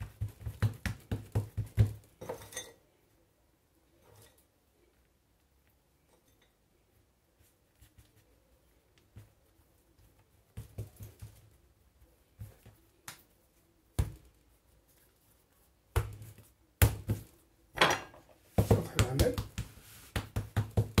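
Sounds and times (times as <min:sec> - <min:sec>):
hands kneading dough on counter: 0:00.0 - 0:02.6, 0:03.9 - 0:17.7, 0:18.3 - 0:21.0.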